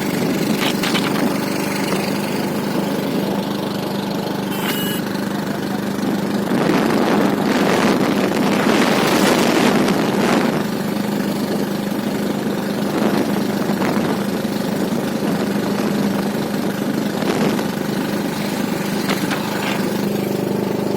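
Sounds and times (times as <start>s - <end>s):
engine humming: 0.0s - 20.9s.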